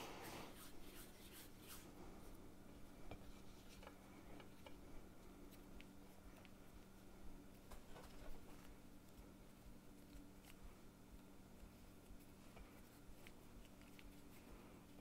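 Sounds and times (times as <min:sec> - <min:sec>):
hands shaping dough: 0:00.0 - 0:15.0
steady low hum: 0:00.0 - 0:15.0.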